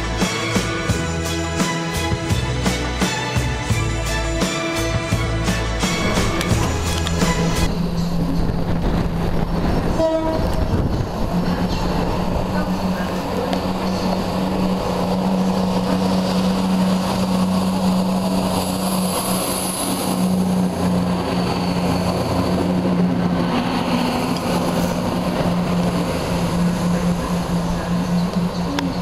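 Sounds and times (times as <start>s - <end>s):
diesel train engine drone: 0.0s - 29.0s.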